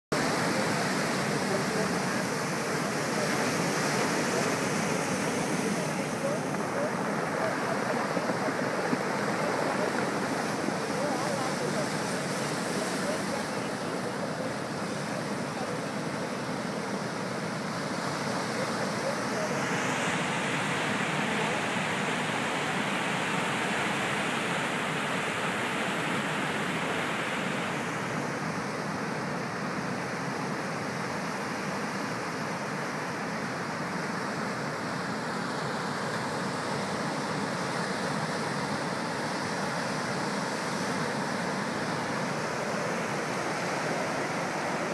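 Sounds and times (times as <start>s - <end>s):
ocean surf breaking: 0.1s - 44.9s.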